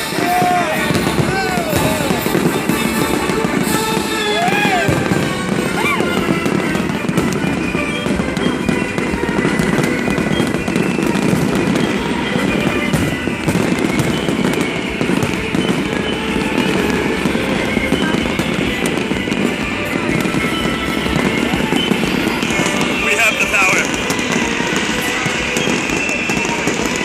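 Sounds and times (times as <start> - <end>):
fireworks booms and crackles: 0.0 - 27.0.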